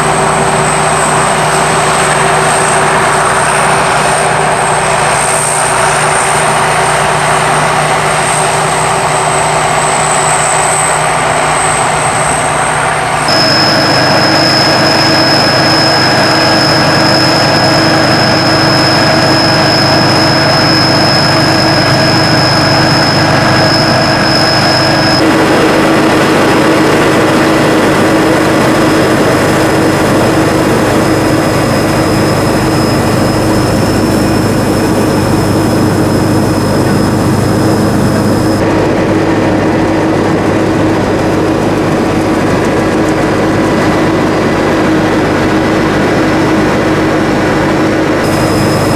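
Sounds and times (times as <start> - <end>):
combine harvester running: 0.0 - 48.9.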